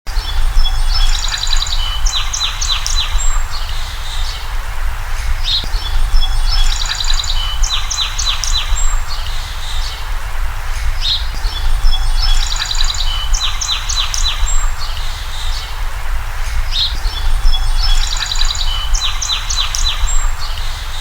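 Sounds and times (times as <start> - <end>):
songbirds singing: 0.1 - 21.0
steady low rumble: 0.1 - 21.0.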